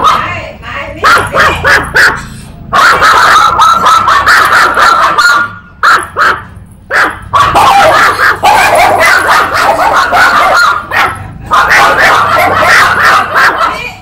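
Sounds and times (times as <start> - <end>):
small dog yapping: 1.0 - 14.0.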